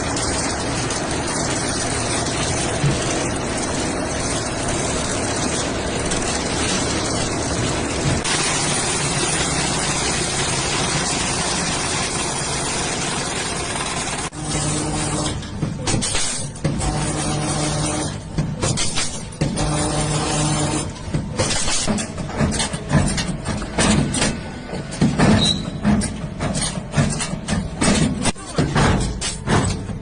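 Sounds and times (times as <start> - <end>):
machine running mechanical noise: 0.0 - 30.0.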